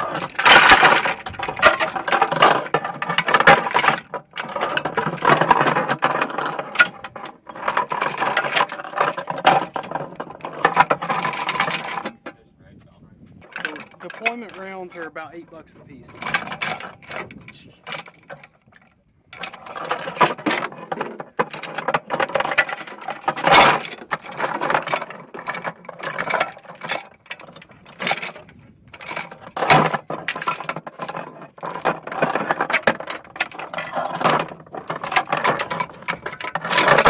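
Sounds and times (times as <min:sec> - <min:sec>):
ammunition belt rattling on metal: 0:00.0 - 0:12.4, 0:13.4 - 0:15.2, 0:15.8 - 0:37.0.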